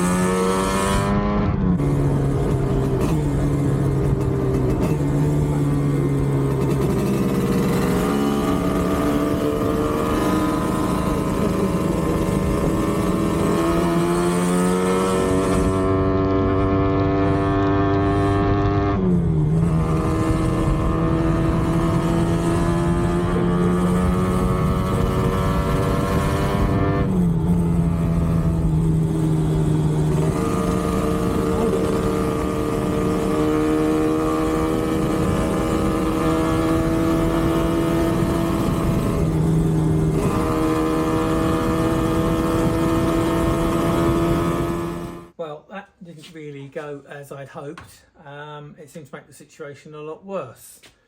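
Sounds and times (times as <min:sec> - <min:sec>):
two-stroke motorcycle engine revving: 0:00.0 - 0:45.4.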